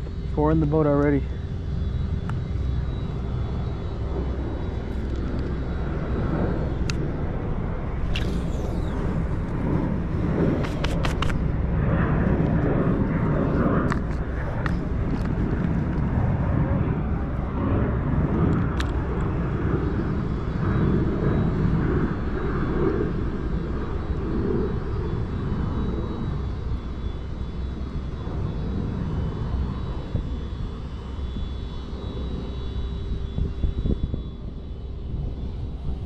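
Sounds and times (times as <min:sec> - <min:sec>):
faint steady tones: 0:00.0 - 0:36.0
jet airliner roar: 0:00.0 - 0:36.0.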